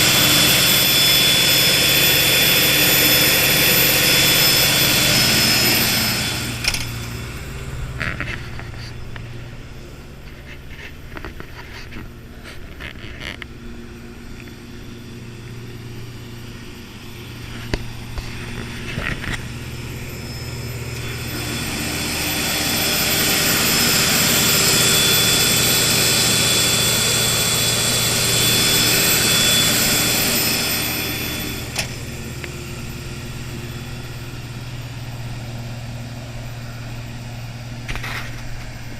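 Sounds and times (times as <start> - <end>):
diesel generator humming: 0.0 - 38.9.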